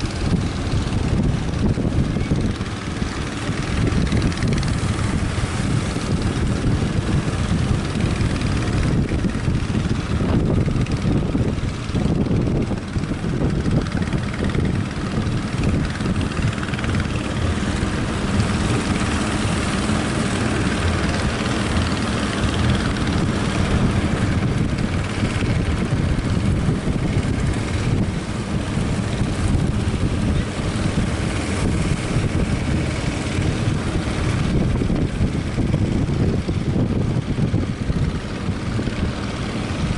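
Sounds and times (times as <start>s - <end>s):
boat engine running: 0.0s - 39.9s
wind buffeting microphone: 0.0s - 39.9s.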